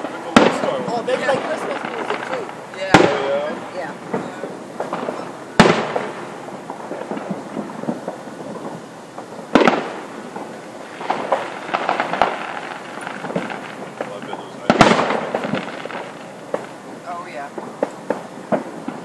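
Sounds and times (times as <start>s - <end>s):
crackling firework pops: 0.0s - 19.0s
firework shells bursting: 0.0s - 19.0s.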